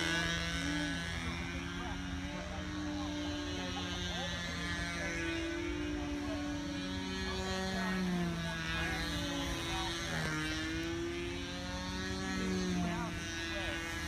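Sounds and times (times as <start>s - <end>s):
model aircraft motor and propeller: 0.0s - 14.0s.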